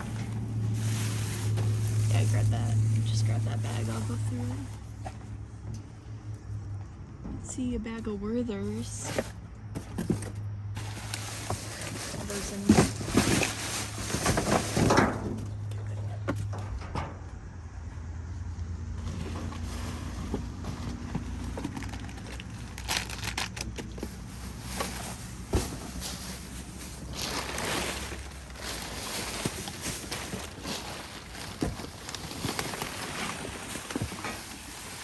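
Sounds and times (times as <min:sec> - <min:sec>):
plastic bags rustling and crinkling: 0:00.0 - 0:05.2, 0:08.7 - 0:15.7, 0:19.0 - 0:35.0.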